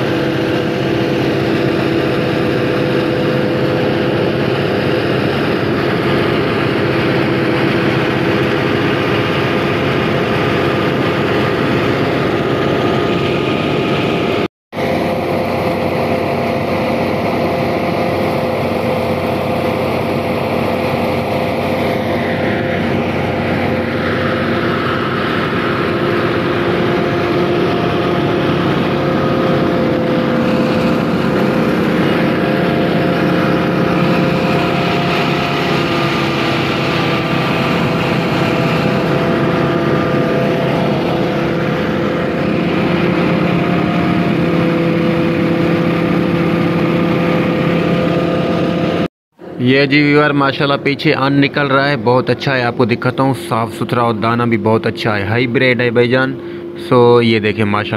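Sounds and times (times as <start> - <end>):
high whine falling in pitch: 0.0 - 57.9
thresher drone: 0.0 - 57.9
tractor diesel engine running: 0.0 - 57.9.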